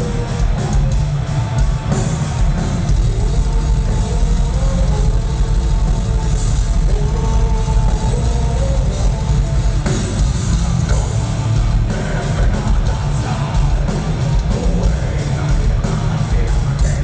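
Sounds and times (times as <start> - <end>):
live heavy metal band: 0.0 - 17.0.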